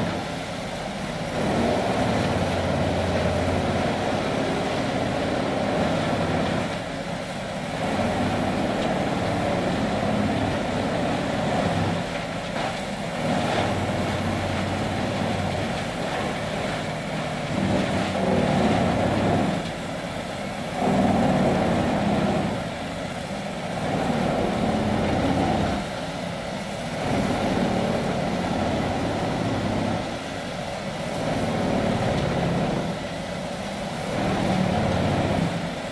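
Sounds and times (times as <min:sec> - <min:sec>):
wood grinder grinding logs: 0:00.0 - 0:35.9.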